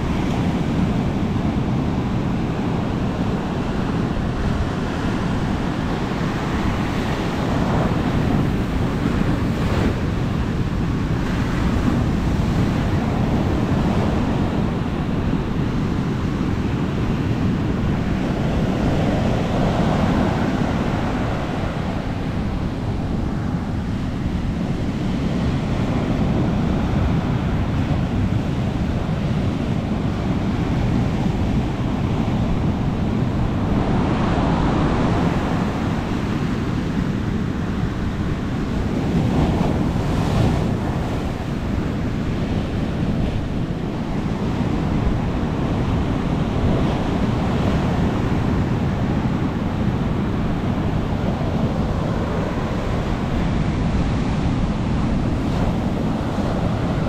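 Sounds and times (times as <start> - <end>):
ocean surf breaking on beach: 0.0 - 57.0
wind rumbling on microphone: 0.0 - 57.0.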